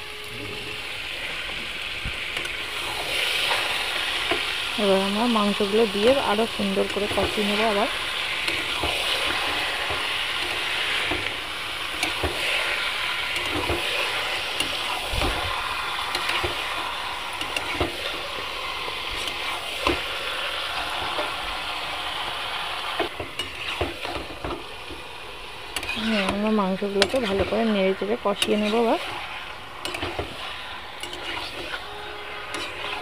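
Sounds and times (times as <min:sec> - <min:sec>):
meat sizzling in hot oil: 0:00.0 - 0:33.0
metal spatula scraping a pan: 0:02.3 - 0:21.4, 0:23.0 - 0:25.0, 0:25.7 - 0:33.0.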